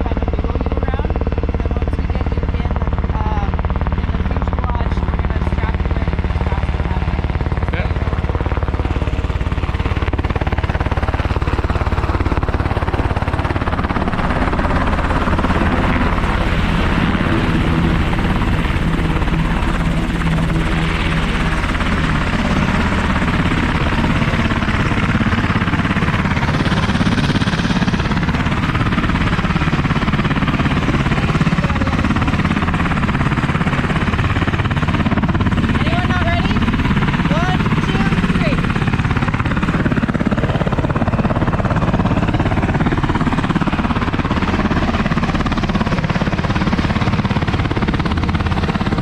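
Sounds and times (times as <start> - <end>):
helicopter rotor and engine din: 0.0 - 49.0.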